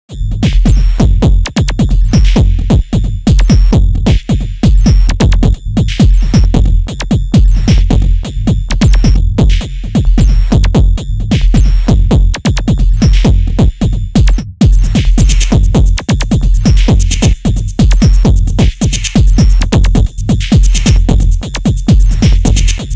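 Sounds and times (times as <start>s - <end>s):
rapid clicking percussion: 0.1s - 22.9s.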